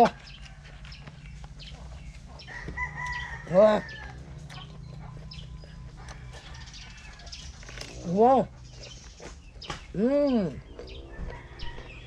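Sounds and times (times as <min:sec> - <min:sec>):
crisp chewing crunches: 0:00.0 - 0:12.0.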